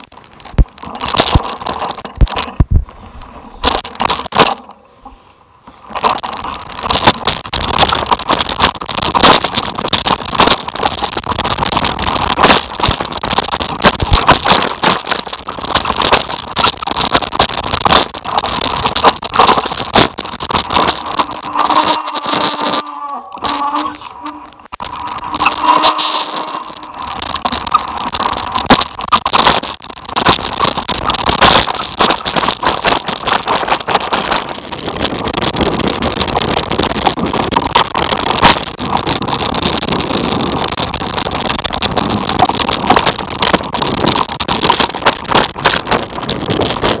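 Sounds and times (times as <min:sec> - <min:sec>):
rattling and knocks over bumps: 0:00.0 - 0:04.8, 0:05.9 - 0:47.0.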